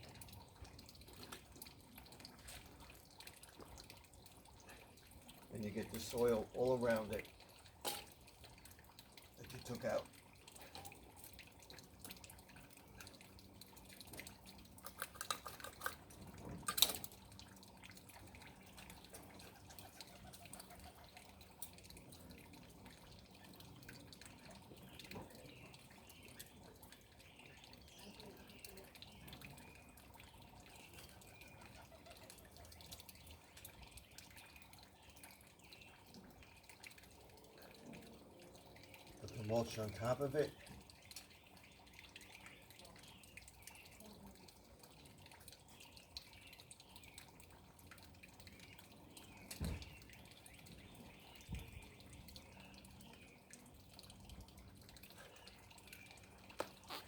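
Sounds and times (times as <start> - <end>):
water trickling and dripping: 0.0 - 57.0.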